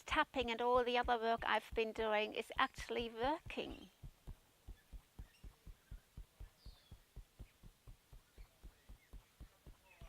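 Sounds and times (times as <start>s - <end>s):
fingertip tapping on body: 0.4s - 10.0s.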